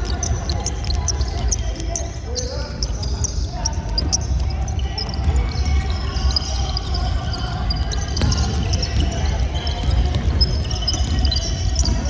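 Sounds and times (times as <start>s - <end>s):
basketball bouncing: 0.0s - 12.0s
sneakers squeaking on floor: 0.0s - 12.0s.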